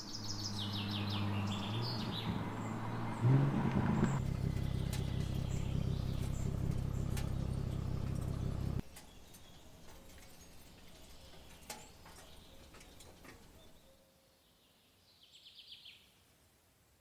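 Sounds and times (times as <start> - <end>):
faint woodland ambience: 0.0 - 17.0.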